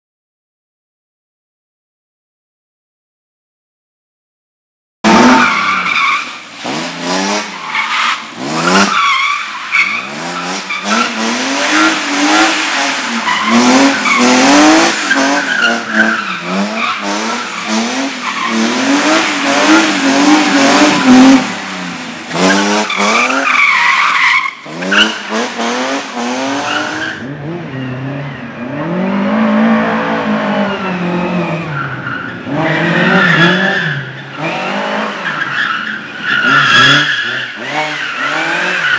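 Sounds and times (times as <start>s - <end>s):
car engine revving: 5.0s - 38.9s
tyres squealing and skidding: 5.1s - 38.9s.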